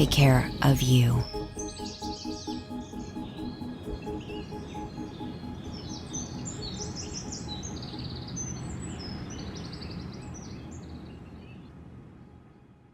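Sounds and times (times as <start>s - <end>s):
birds chirping and trilling: 0.0s - 11.7s.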